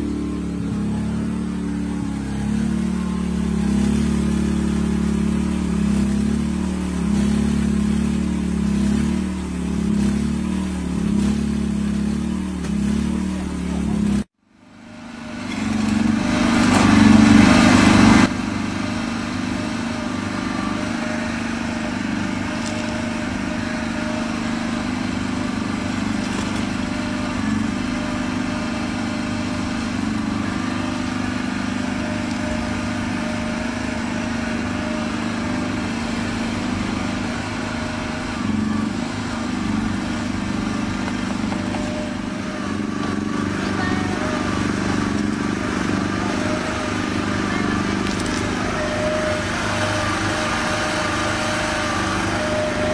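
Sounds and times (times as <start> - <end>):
small excavator engine running: 0.0 - 52.9.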